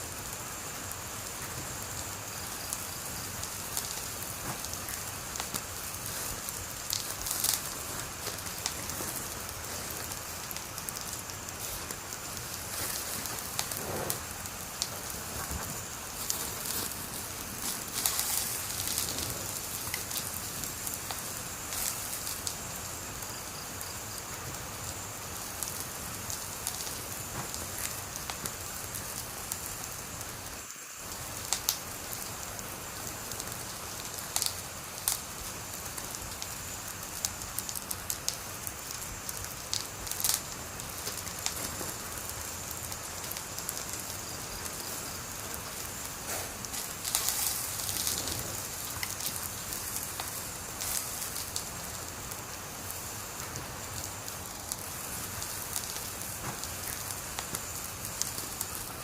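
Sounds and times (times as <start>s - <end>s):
fire crackles and pops: 0.0s - 59.0s
wood fire hissing: 0.0s - 59.0s.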